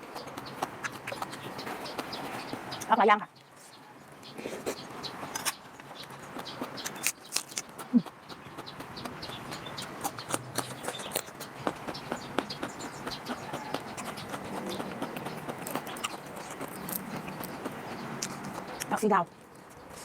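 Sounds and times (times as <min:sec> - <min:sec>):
chewing and mouth noises: 0:00.0 - 0:20.0.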